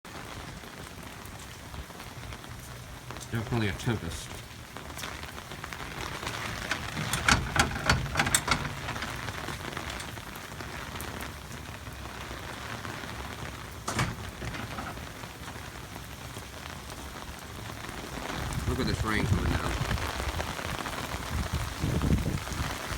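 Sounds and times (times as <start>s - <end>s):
heavy rain pouring: 0.1s - 22.9s
loud taps of raindrops: 0.1s - 22.9s.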